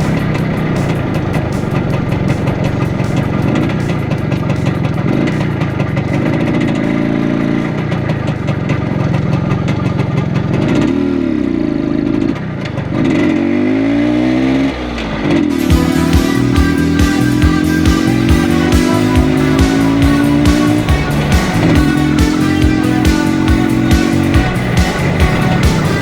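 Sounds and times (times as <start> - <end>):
two-stroke motorcycle engine: 0.0 - 26.0.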